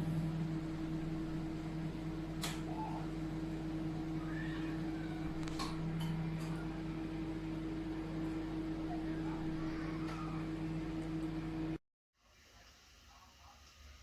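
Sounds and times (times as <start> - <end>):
microwave oven humming: 0.0 - 11.8.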